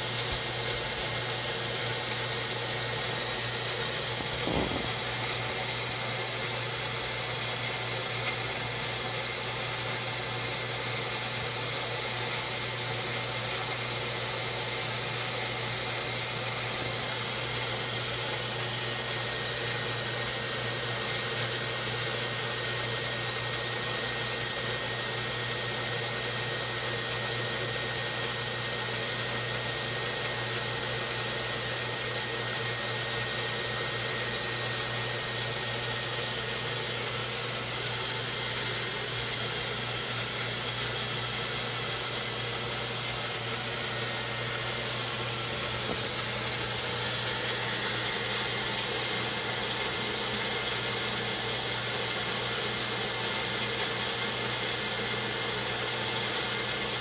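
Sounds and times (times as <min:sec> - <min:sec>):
high hiss: 0:00.0 - 0:57.0
low mechanical hum: 0:00.0 - 0:57.0.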